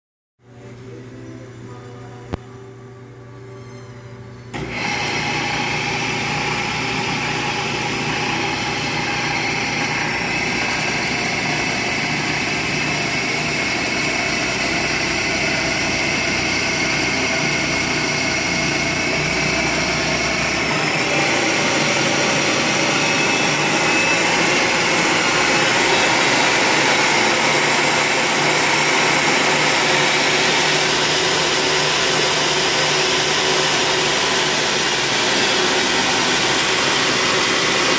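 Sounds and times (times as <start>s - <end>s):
drill press motor whine: 1.7s - 37.9s.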